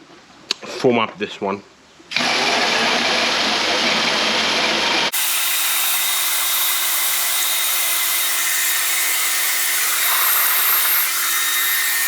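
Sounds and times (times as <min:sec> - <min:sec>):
pressure washer motor hum: 0:02.2 - 0:12.0.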